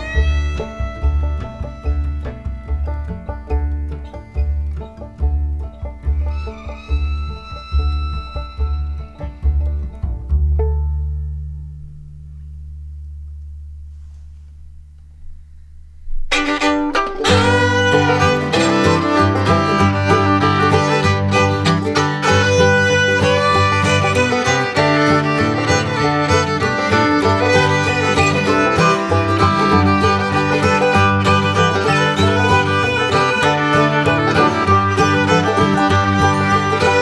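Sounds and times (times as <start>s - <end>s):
bluegrass music with fiddle: 0.0s - 12.1s, 16.3s - 37.0s.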